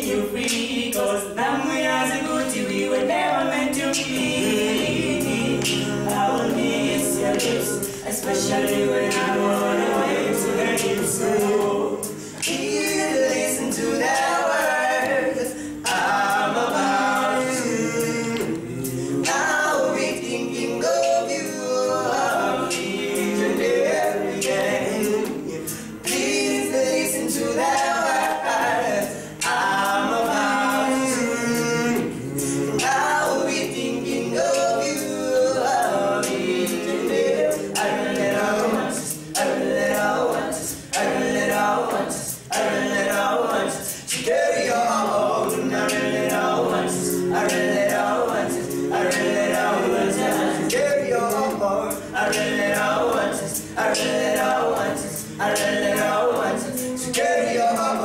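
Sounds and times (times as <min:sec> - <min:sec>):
group singing a cappella: 0:00.0 - 0:58.0.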